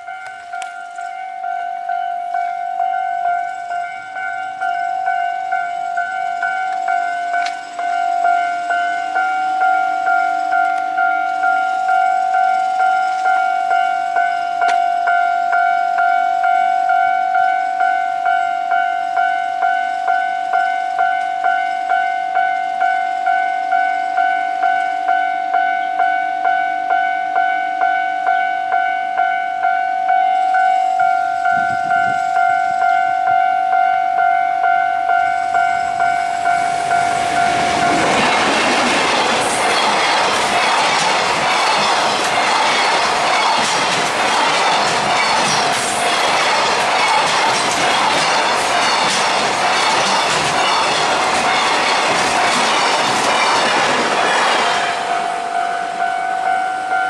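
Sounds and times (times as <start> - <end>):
level crossing bell clanging: 0.0 - 57.0.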